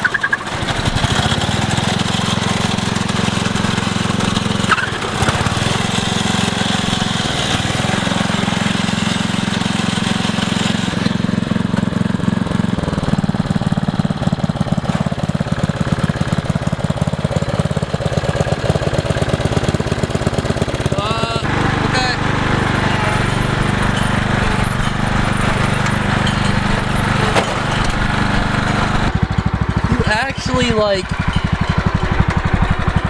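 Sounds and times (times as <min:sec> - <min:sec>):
lawn tractor engine running hard: 0:00.0 - 0:33.0.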